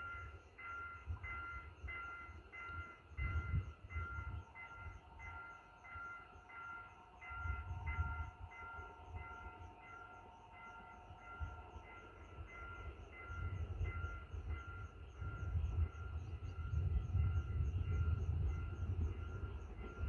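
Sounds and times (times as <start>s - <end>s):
distant train rumble: 0.0s - 20.0s.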